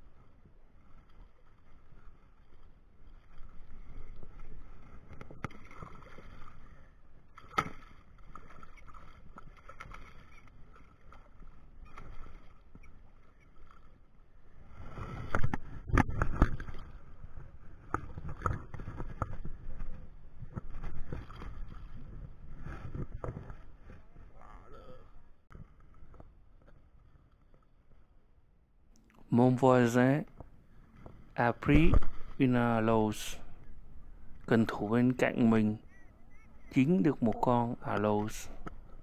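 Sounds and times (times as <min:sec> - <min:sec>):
water lapping: 0:00.0 - 0:25.2, 0:29.0 - 0:39.0.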